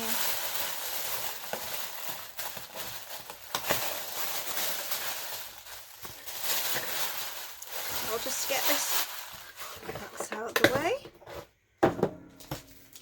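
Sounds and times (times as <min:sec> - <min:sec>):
tissue paper rustling and crinkling: 0:00.0 - 0:11.0.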